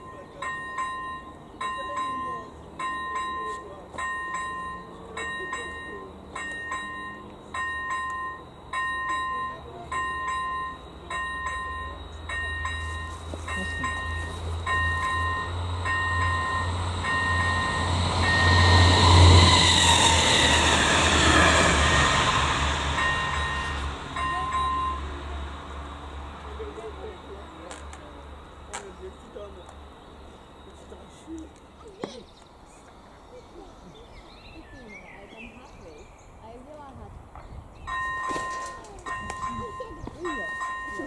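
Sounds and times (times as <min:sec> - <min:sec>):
level crossing warning bell dinging: 0:00.0 - 0:31.8, 0:37.8 - 0:41.0
diesel train passing: 0:00.0 - 0:41.0.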